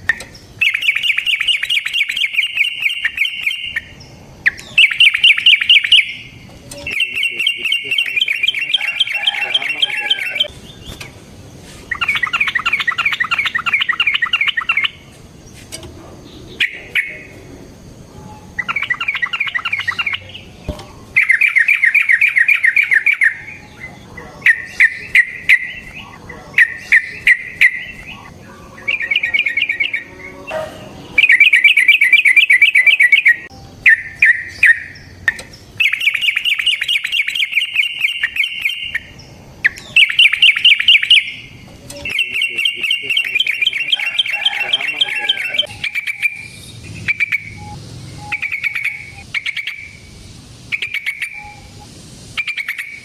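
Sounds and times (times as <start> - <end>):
bird singing bubbling phrases: 0.0 - 11.2, 11.9 - 15.1, 16.2 - 53.0.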